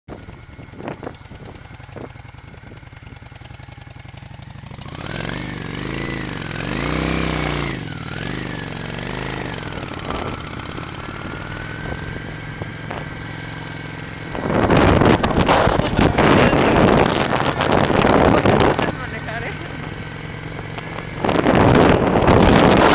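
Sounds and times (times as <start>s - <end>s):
motorcycle engine revving: 0.1s - 22.9s.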